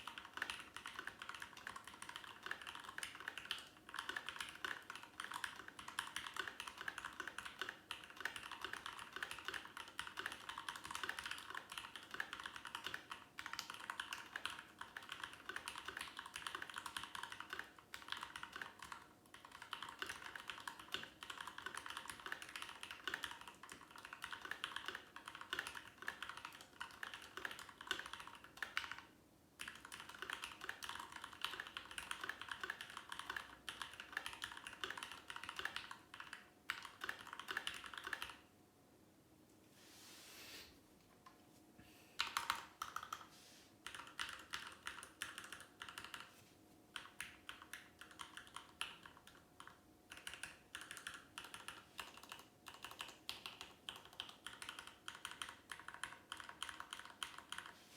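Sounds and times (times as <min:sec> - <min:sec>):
fast typing on mechanical keyboard: 0:00.0 - 0:38.4, 0:42.2 - 0:46.3, 0:46.9 - 0:57.8.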